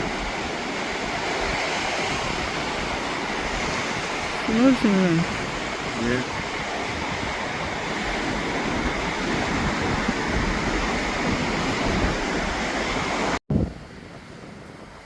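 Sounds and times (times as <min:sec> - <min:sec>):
sea surf: 0:00.0 - 0:15.0
wind: 0:00.0 - 0:15.0
wind buffeting the microphone: 0:00.0 - 0:15.0.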